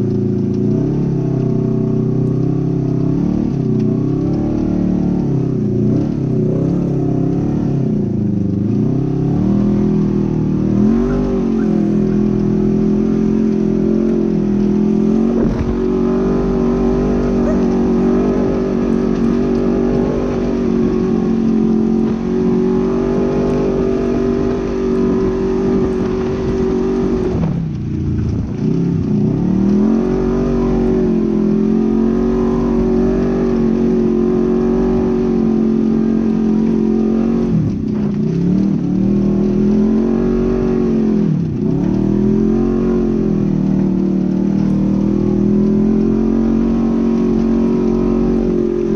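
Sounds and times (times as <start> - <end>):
engine running at high revs: 0.0 - 48.9.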